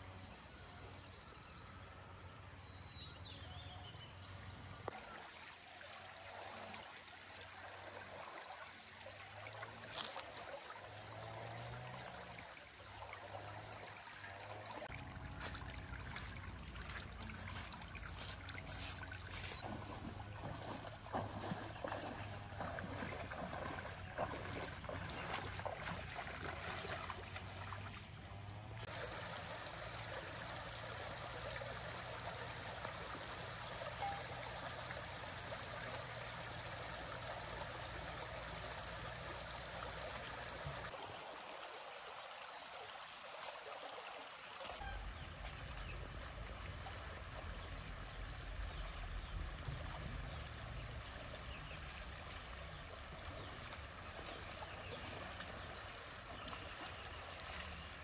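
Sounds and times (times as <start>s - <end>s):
stream flowing over stones: 4.8s - 58.0s.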